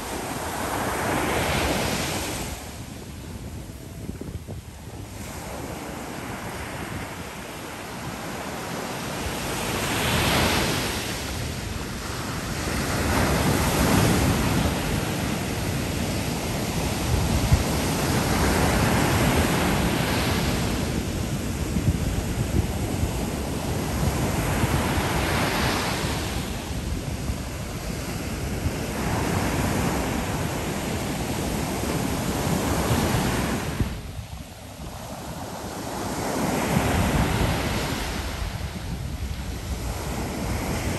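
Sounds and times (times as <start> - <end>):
ocean surf on sandy beach: 0.0 - 40.9.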